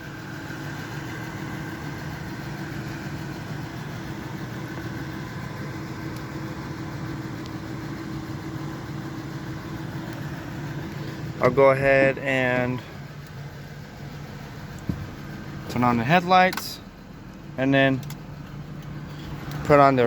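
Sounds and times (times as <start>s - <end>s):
pickup truck engine idling: 0.0s - 20.0s.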